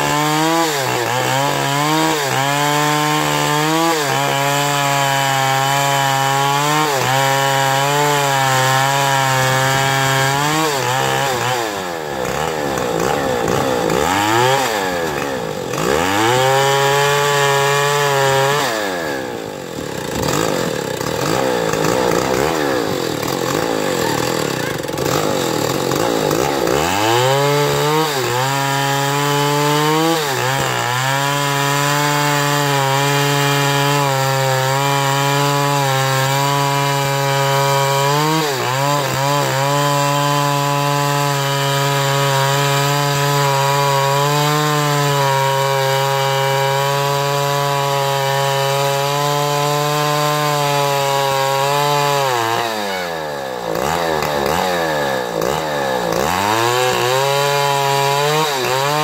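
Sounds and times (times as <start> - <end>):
chainsaw cutting through log: 0.0 - 59.0.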